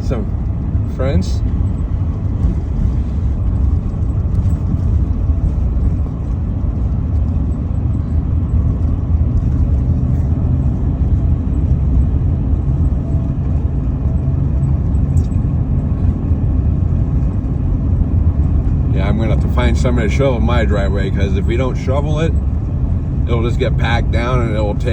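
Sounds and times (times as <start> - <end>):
car engine and road noise: 0.0 - 24.9.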